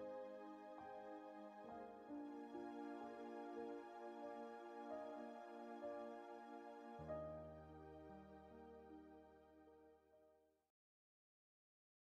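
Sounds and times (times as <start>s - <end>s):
soft slow background music: 0.0s - 10.1s.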